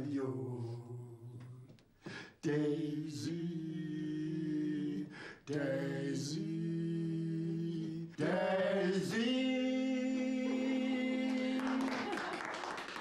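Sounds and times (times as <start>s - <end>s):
man singing a cappella: 0.0s - 12.0s.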